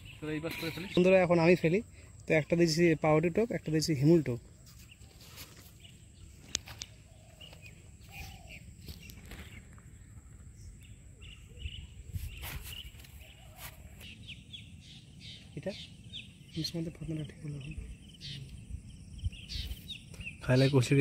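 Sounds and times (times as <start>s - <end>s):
distant bird calling: 0.0s - 21.0s.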